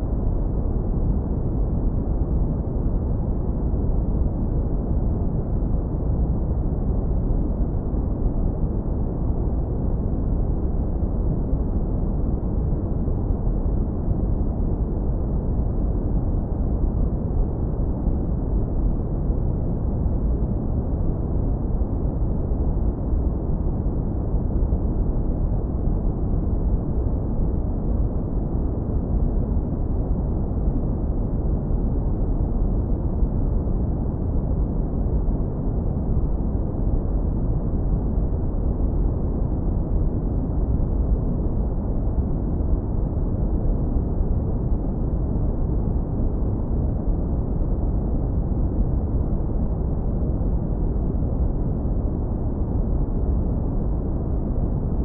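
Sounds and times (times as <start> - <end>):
deep brown noise rumble: 0.0 - 55.0.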